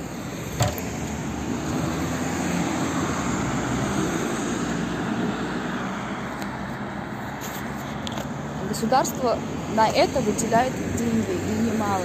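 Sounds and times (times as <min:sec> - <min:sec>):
passing vehicle rumble: 0:00.0 - 0:12.0.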